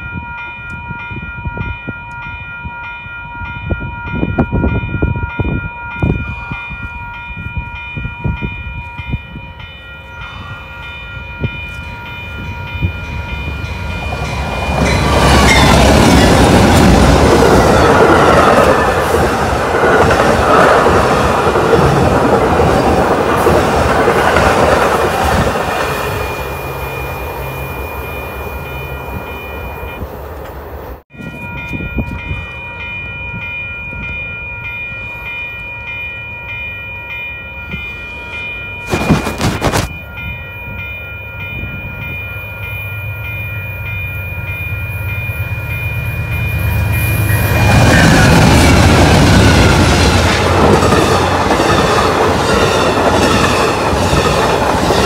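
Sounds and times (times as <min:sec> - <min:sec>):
crossing bell ringing: 0:00.0 - 0:30.2, 0:30.9 - 0:55.0
train passing on rails: 0:00.0 - 0:55.0.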